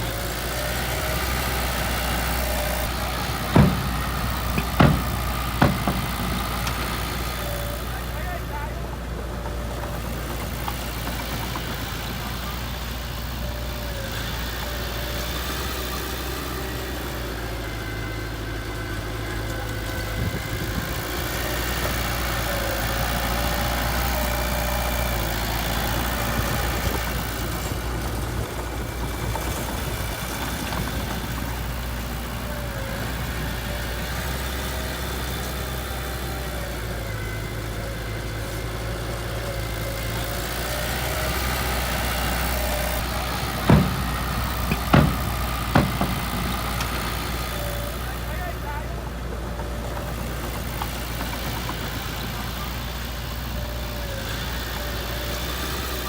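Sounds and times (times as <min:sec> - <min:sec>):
diesel engine running low speed: 0:00.0 - 0:56.0.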